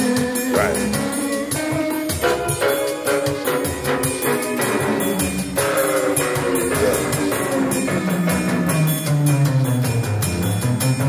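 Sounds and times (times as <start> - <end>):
keyboard melody: 0.0 - 11.0
steady drum beat: 0.0 - 11.0.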